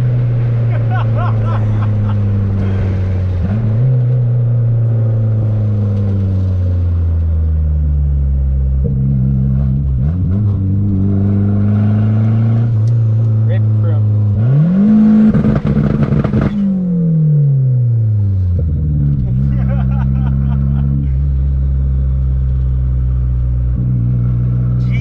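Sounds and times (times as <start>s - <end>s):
turbocharged car engine revving: 0.0s - 25.0s.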